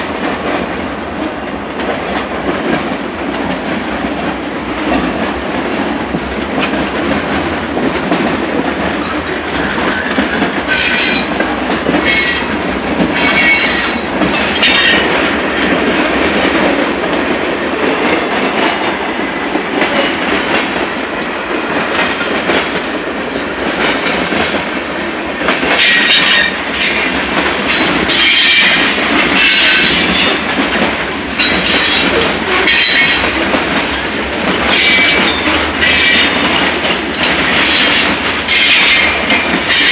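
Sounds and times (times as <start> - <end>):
freight train wheels rumbling on rails: 0.0 - 39.9.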